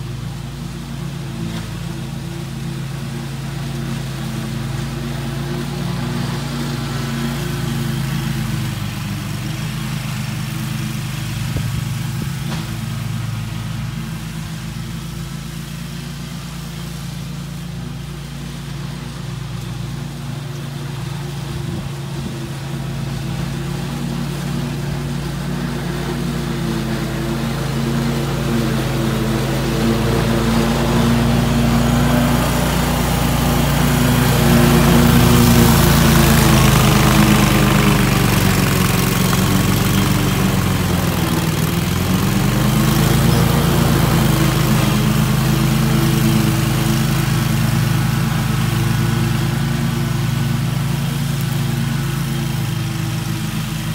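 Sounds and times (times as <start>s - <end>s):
lawn mower engine running: 0.0s - 53.9s.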